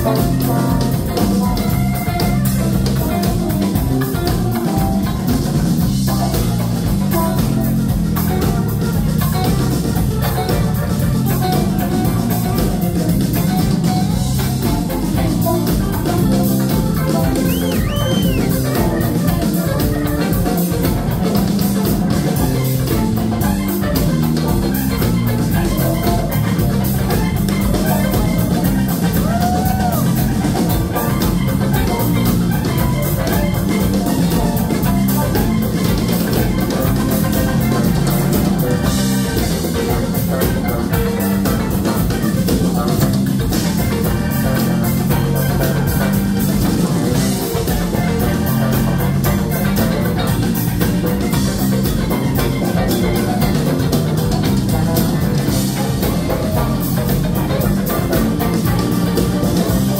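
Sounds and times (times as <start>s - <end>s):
bass line: 0.0s - 59.9s
drum kit beat: 0.0s - 59.9s
live rock band playing: 0.0s - 59.9s.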